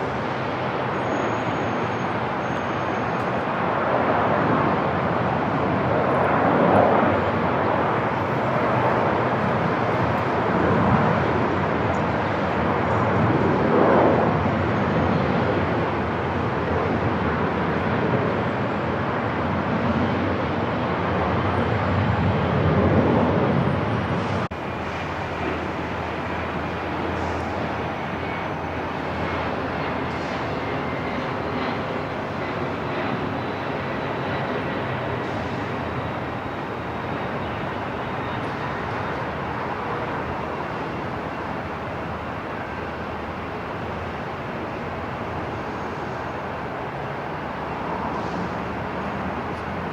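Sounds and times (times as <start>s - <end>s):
aircraft drone: 0.0s - 49.9s
rush of airport noise: 0.0s - 49.9s.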